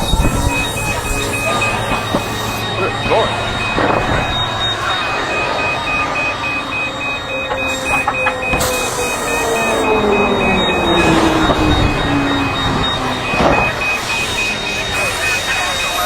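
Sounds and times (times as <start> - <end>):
constant rumbling noise: 0.0 - 16.0
fast electronic beeping: 0.0 - 16.0
low tone sliding downward: 0.0 - 16.0.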